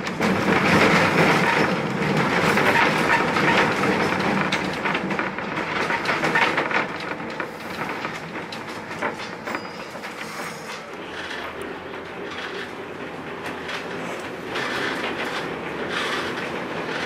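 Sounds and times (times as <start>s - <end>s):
streetcar rumbling: 0.0s - 17.0s
wheels clicking on rails: 0.0s - 17.0s.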